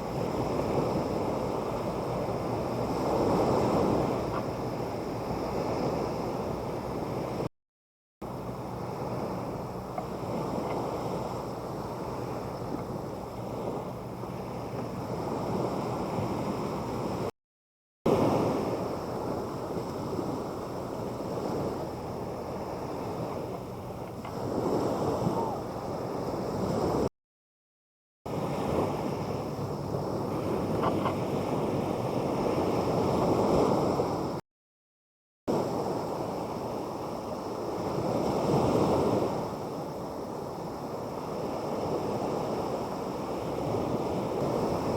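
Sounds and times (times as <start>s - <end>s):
sea waves washing onto beach: 0.0s - 7.5s, 8.2s - 17.3s, 18.1s - 27.1s, 28.3s - 34.4s, 35.5s - 44.9s
wind on the microphone: 0.0s - 7.5s, 8.2s - 17.3s, 18.1s - 27.1s, 28.3s - 34.4s, 35.5s - 44.9s.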